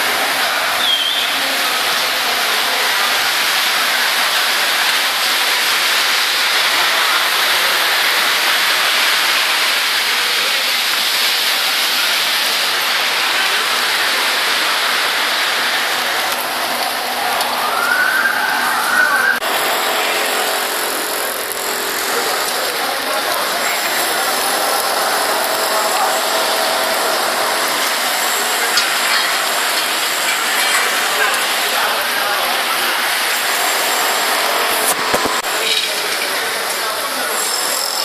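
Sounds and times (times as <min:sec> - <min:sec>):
heavy rain and floodwater hiss: 0:00.0 - 0:37.8.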